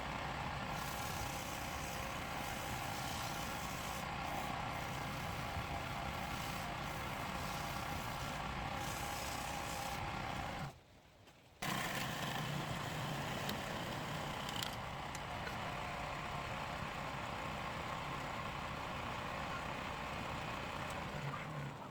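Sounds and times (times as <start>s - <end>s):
mechanical running noise with hum: 0.0s - 10.8s, 11.6s - 21.9s.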